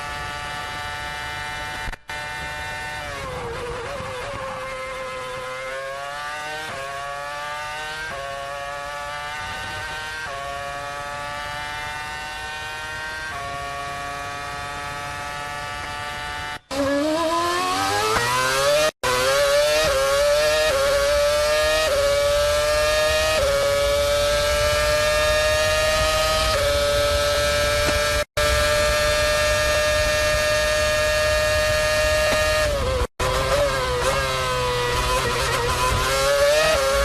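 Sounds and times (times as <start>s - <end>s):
racing car accelerating through gears: 0.0s - 37.0s
racing car engine at high revs: 0.0s - 37.0s.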